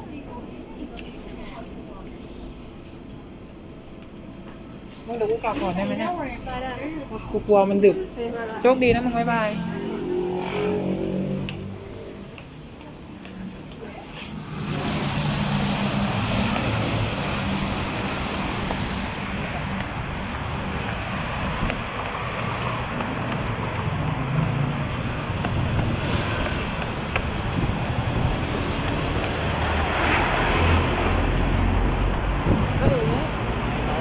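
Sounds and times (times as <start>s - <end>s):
road traffic noise: 0.0s - 34.0s
vehicle engines passing: 0.4s - 34.0s.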